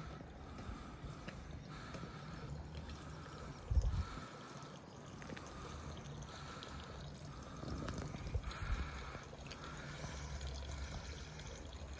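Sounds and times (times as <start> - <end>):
water trickling into stone basin: 0.0 - 11.9.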